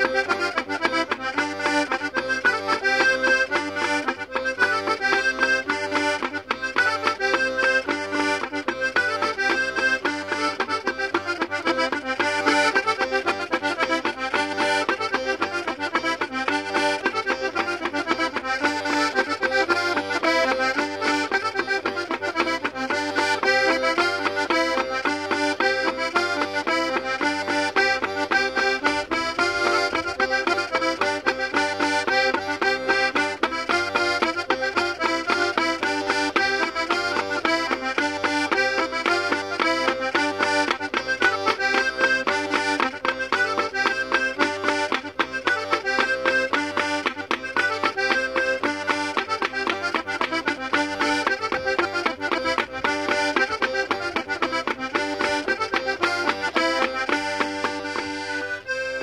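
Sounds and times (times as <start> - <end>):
button accordion playing folk tune: 0.0 - 59.0.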